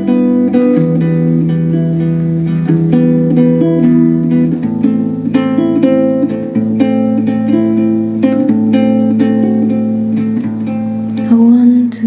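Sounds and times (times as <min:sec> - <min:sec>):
solo guitar playing: 0:00.0 - 0:12.0.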